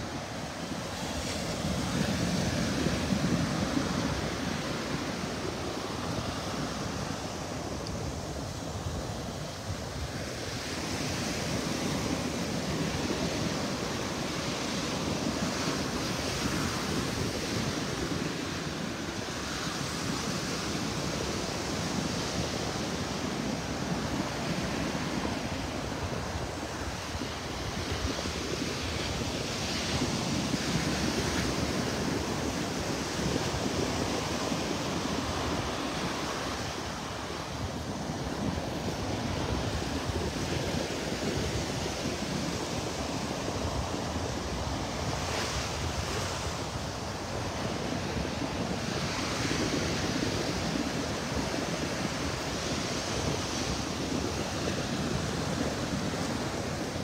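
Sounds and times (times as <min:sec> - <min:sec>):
surf breaking on beach: 0:00.0 - 0:57.0
wind rumbling on microphone: 0:00.0 - 0:57.0.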